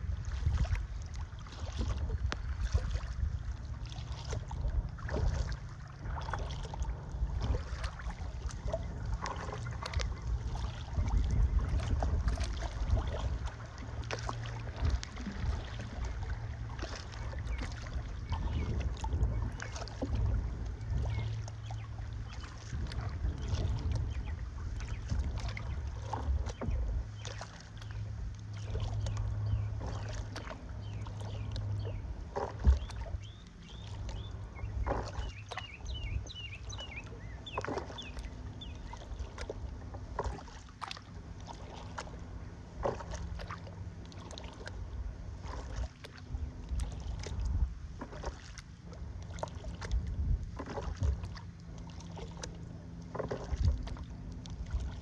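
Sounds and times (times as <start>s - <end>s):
wind rumble on microphone: 0.0s - 52.6s, 53.2s - 55.0s
kayak paddle splashing: 0.0s - 55.0s
water lapping against hull: 0.0s - 55.0s.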